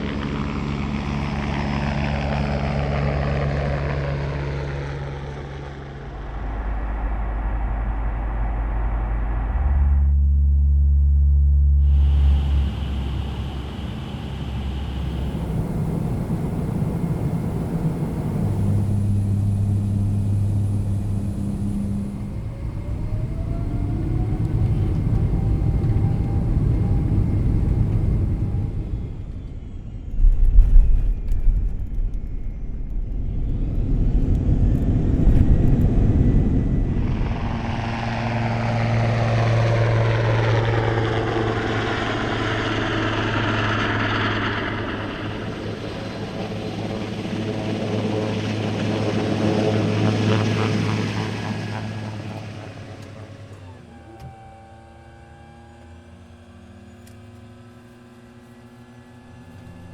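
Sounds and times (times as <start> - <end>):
helicopter turbine and rotor whine: 0.0 - 10.2, 11.8 - 59.9
airliner cabin rumble: 3.8 - 59.9.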